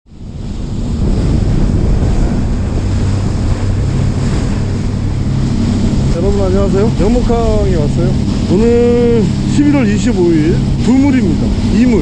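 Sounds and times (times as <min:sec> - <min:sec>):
boat engine humming: 0:00.1 - 0:12.0
water rushing past hull: 0:00.1 - 0:12.0
wind on microphone: 0:00.1 - 0:12.0.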